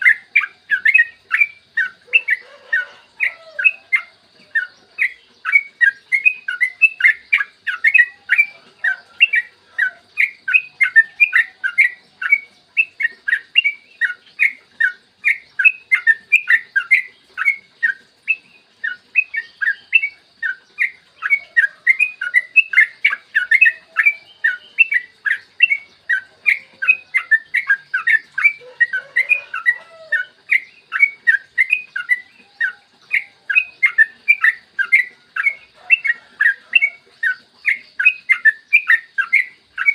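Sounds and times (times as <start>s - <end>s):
bird singing chirping notes: 0.0s - 39.9s.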